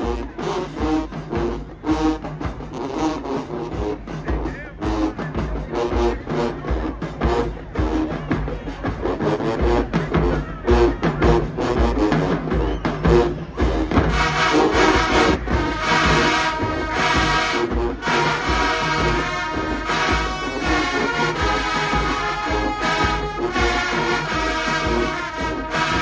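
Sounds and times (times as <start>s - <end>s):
bass drums beating: 0.0s - 26.0s
brass section sustained chords: 0.0s - 26.0s
marching band playing: 0.0s - 26.0s.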